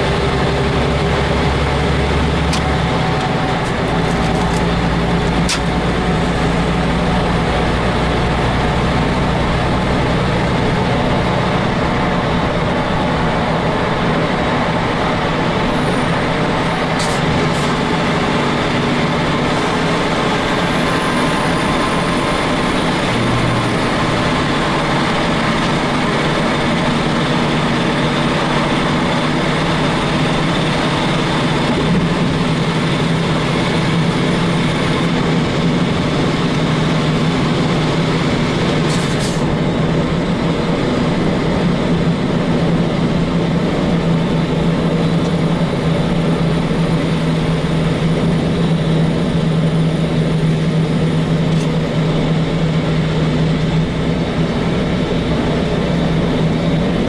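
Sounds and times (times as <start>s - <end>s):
truck diesel engine from cab: 0.0s - 57.0s.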